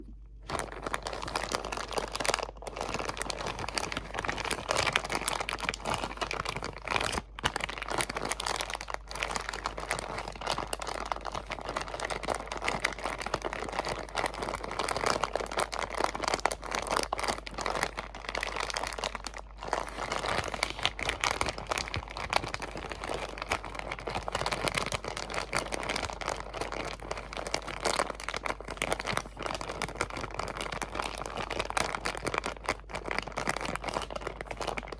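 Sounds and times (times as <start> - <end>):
crinkling material: 0.0 - 34.9.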